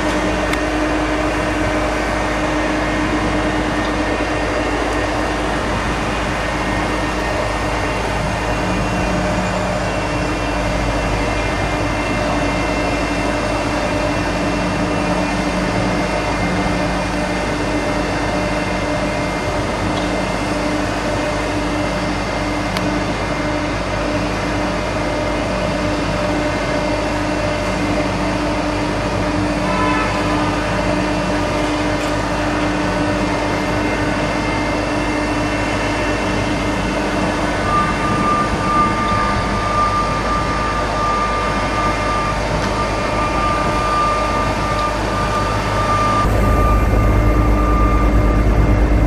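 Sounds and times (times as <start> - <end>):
construction machinery engine drone: 0.0 - 49.0
machinery whining tones: 0.0 - 49.0.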